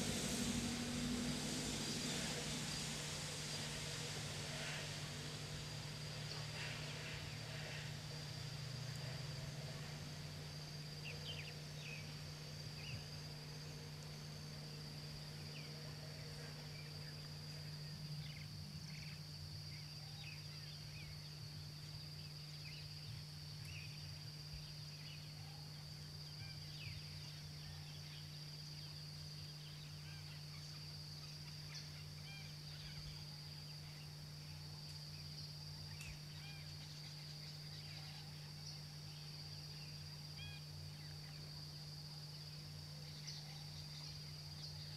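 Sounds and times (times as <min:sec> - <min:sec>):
high-pitched insect drone: 0:00.0 - 0:44.9
steady low hum: 0:00.0 - 0:44.9.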